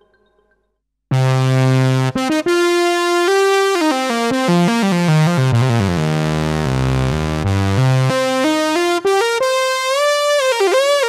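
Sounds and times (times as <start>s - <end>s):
synthesizer chords and notes: 1.1s - 11.0s.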